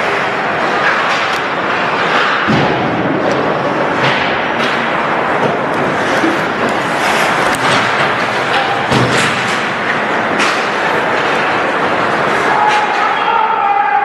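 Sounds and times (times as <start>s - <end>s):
puck and sticks hitting boards: 0.0s - 13.7s
arena noise: 0.0s - 14.0s
skates on ice: 0.0s - 14.0s.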